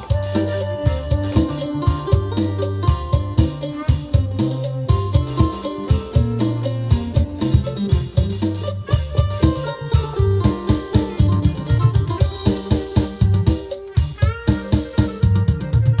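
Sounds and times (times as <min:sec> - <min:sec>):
drum beat: 0:00.0 - 0:16.0
electric piano and organ melody: 0:00.0 - 0:16.0
pulsing bass line: 0:00.0 - 0:16.0.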